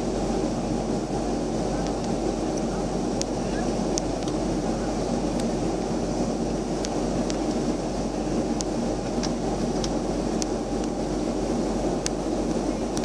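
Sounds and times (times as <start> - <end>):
jet airliner cabin drone: 0.0 - 13.0.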